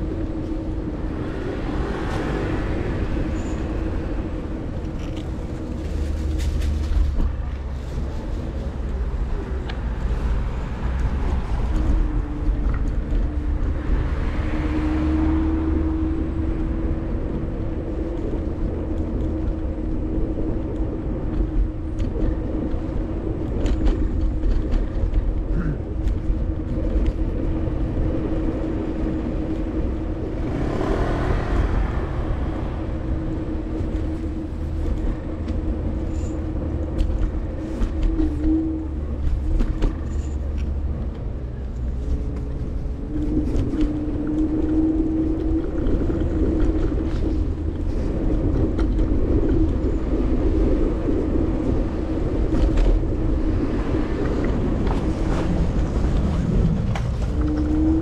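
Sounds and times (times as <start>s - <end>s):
car passing: 0.0s - 18.7s, 26.6s - 58.0s
road and wind rumble: 0.0s - 58.0s.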